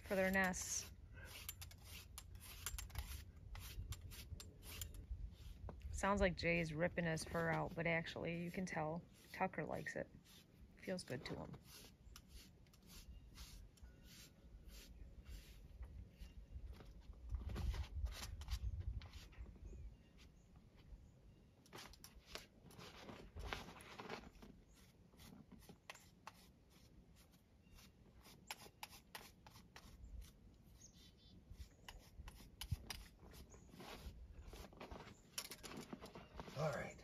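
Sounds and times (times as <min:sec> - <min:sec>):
comb scratching through dog fur: 0:00.0 - 0:16.4, 0:21.7 - 0:35.3.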